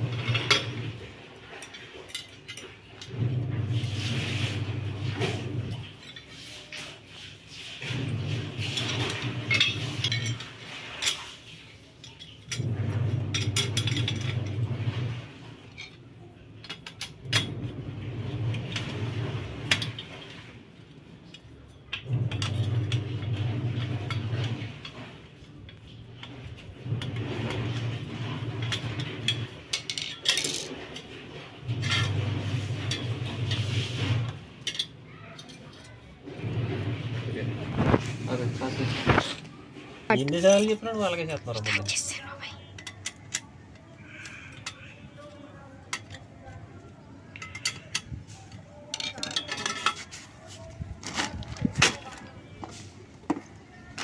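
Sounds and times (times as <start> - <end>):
metal tubes clinking: 0.0 - 7.1, 7.7 - 15.0, 19.5 - 39.4, 40.2 - 54.0.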